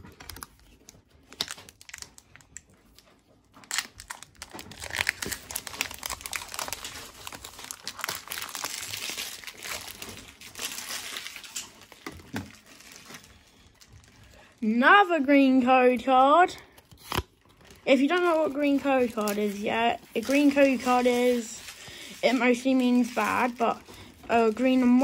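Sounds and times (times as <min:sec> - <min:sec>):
foil wrapper crinkling: 0:00.0 - 0:25.0.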